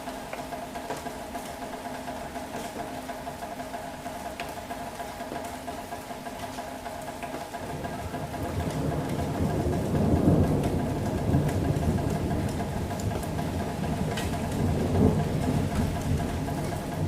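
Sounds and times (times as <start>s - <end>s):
constant mechanical hum: 0.0s - 17.0s.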